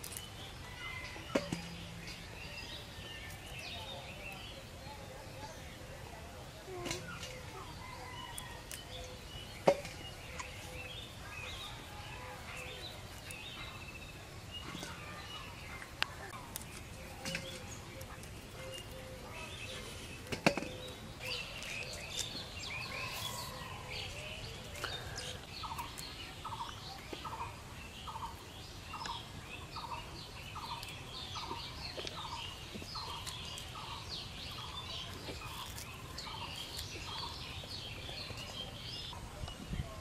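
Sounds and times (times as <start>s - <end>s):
birds chirping in chorus: 6.8s - 40.0s.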